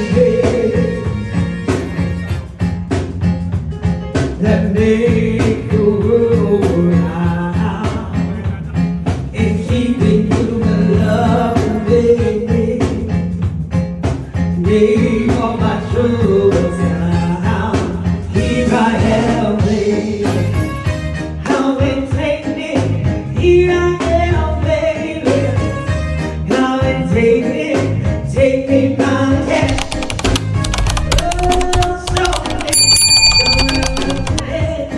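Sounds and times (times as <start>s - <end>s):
lead singer: 0.0s - 2.2s, 4.1s - 13.5s, 14.2s - 34.9s
live band playing soul music: 0.0s - 29.7s, 34.3s - 34.9s
drums: 0.0s - 34.9s.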